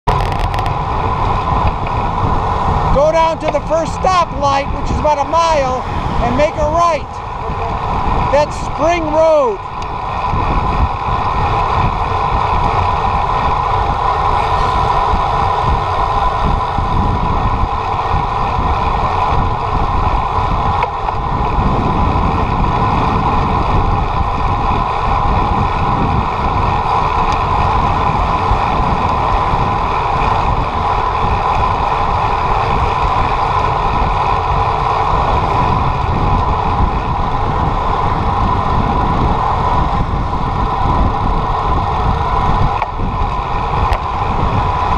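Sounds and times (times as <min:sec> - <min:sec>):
motorcycle engine cruising: 0:00.1 - 0:44.9
wind rumbling on microphone: 0:00.1 - 0:44.9.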